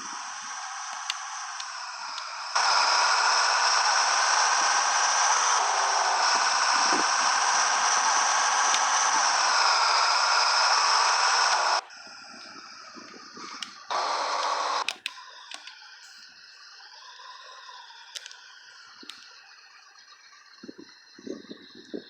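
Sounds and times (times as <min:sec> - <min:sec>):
radio static hiss: 0:00.0 - 0:21.6.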